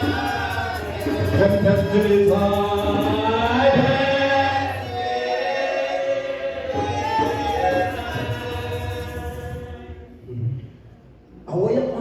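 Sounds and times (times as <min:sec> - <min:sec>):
voices singing gospel chant: 0:00.0 - 0:10.4.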